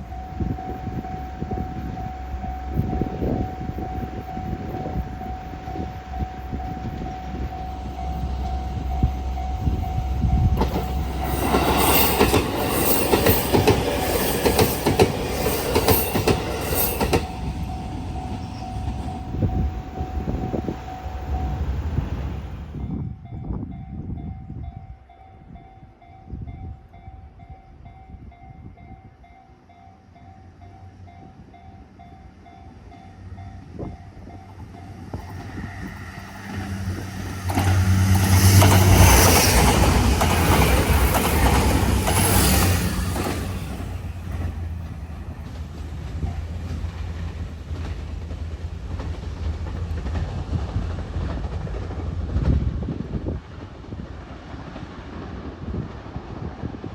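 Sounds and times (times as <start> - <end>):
level-crossing warning bell: 0.0 - 47.4
train passing: 0.0 - 56.9.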